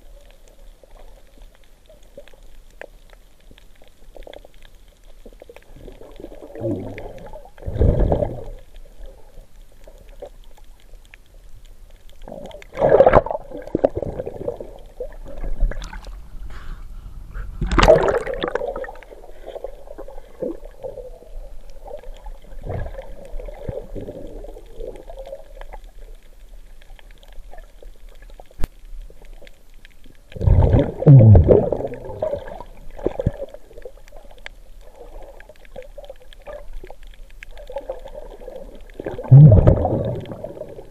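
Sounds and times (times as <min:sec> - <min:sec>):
water gurgling underwater: 0:03.8 - 0:11.1, 0:12.1 - 0:16.7, 0:17.4 - 0:40.9.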